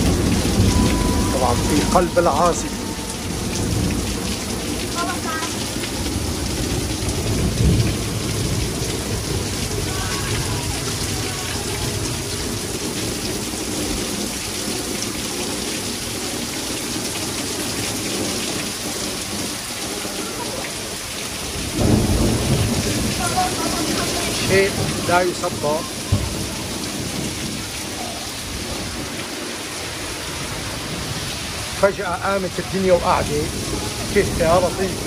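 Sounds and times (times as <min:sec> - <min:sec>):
low thunder rumble: 0:00.0 - 0:15.6, 0:17.9 - 0:31.8
heavy rain on roof: 0:00.0 - 0:35.0
water streaming off roof: 0:00.0 - 0:35.0.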